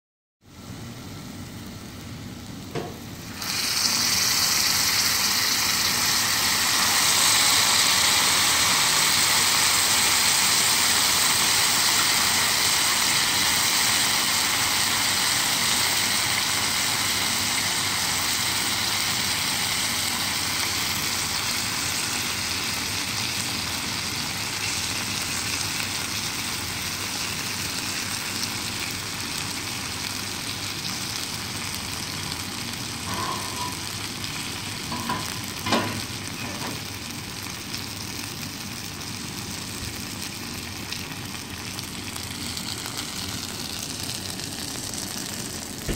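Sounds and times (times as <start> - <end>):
sauce sizzling on hot iron: 0.9 - 45.9.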